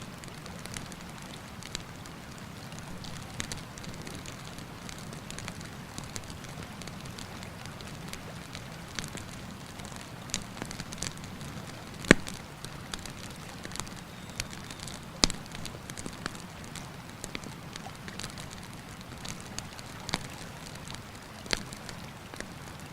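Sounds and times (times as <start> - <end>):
campfire crackling: 0.0 - 22.9
river water rushing: 0.0 - 22.9.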